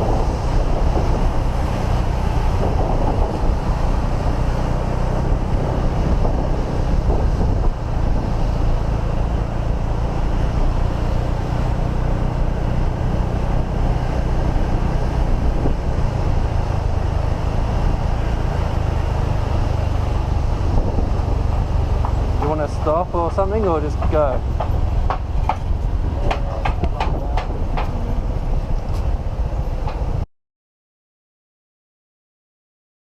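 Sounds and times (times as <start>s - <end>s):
motorbike engine running: 0.0s - 28.9s
wind rush on microphone: 0.0s - 30.2s.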